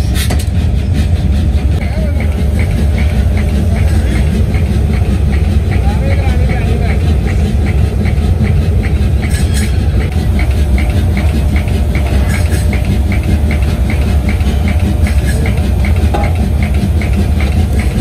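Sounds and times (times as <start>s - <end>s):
machinery low rumble: 0.0s - 18.0s.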